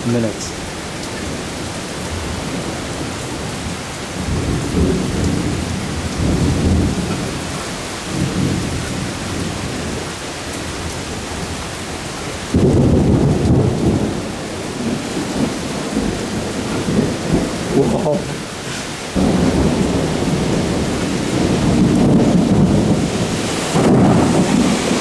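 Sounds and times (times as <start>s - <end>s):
heavy rain pouring: 0.0s - 25.0s
rolling thunder: 1.2s - 10.1s, 12.5s - 25.0s.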